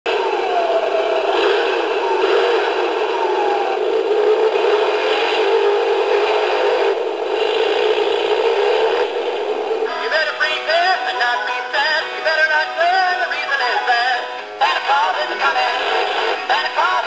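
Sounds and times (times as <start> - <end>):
synthesized christmas song: 0.1 - 17.0.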